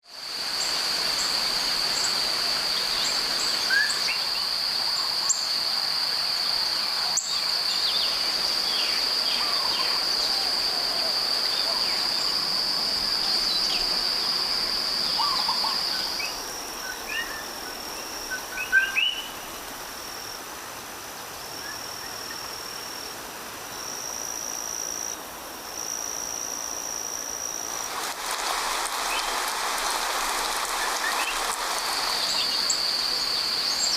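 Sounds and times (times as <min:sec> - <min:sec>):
high-pitched insect trill: 0:00.1 - 0:20.5, 0:25.8 - 0:33.9.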